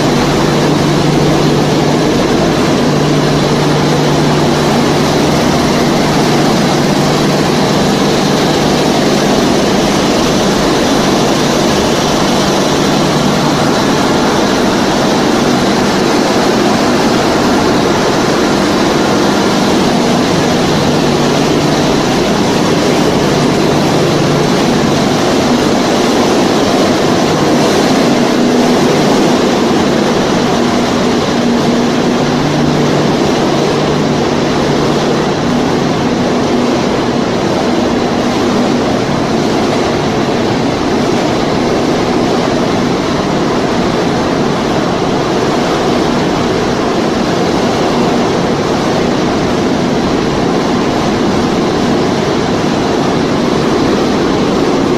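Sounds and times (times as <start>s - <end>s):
low machinery hum: 0.0s - 54.9s
whir of motors and fans: 0.0s - 54.9s.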